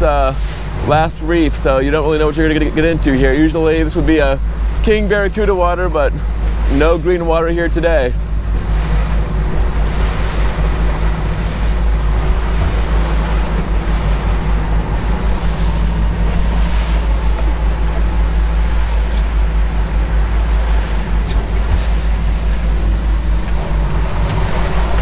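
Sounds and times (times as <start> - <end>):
outboard motors humming: 0.0 - 25.0
wake water rushing: 0.0 - 25.0.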